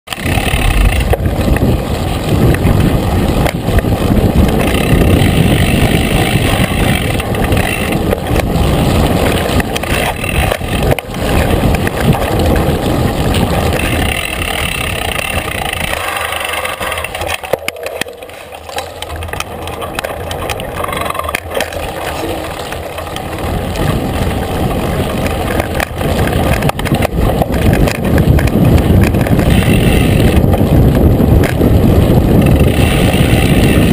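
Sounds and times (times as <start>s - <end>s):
bike rattling over bumps: 0.1s - 33.9s
tyres rolling on gravel: 0.1s - 33.9s
wind rumbling on microphone: 0.1s - 33.9s.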